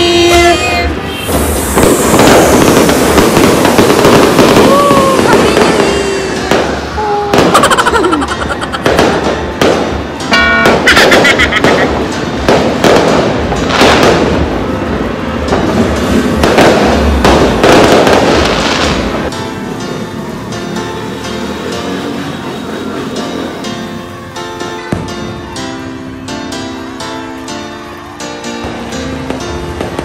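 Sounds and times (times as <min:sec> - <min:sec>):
fireworks banging and crackling: 0:00.0 - 0:30.0
fireworks whistling: 0:00.0 - 0:30.0.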